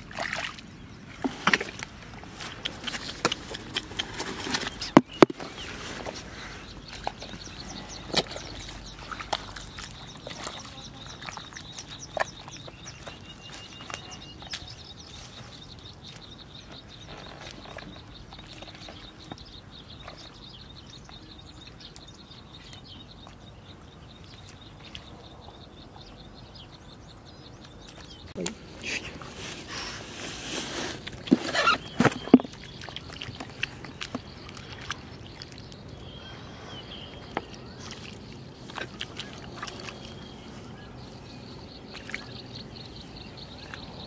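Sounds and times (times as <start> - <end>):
steps in mud and water: 0.0 - 44.0.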